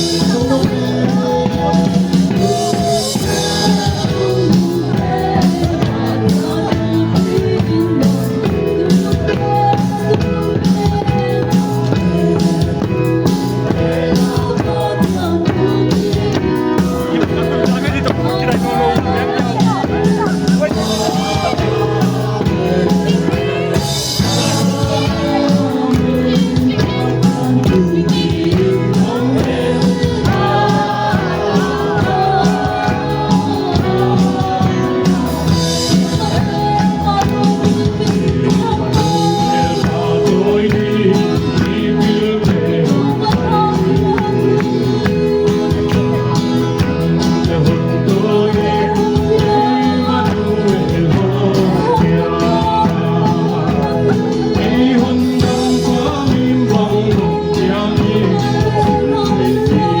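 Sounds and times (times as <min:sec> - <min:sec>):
song with singing voice and beat: 0:00.0 - 1:00.0.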